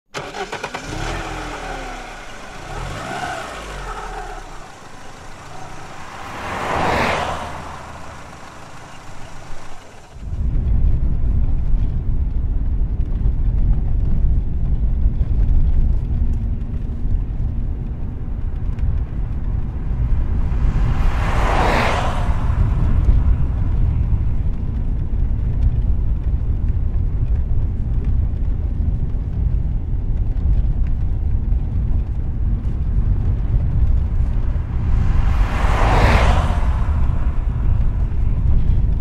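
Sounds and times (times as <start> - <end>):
vehicles driving by: 0.2 - 12.8, 15.2 - 39.0
steady low rumble: 1.2 - 39.0.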